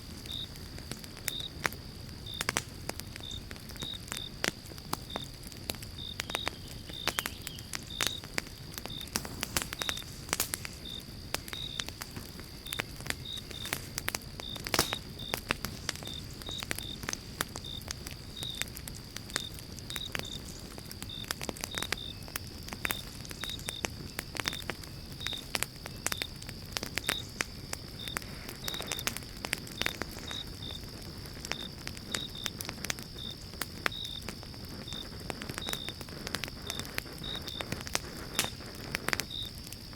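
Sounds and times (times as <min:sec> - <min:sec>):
campfire crackling and popping: 0:00.0 - 0:39.9
insect chirping: 0:00.0 - 0:39.9
low rush of burning: 0:00.0 - 0:39.9.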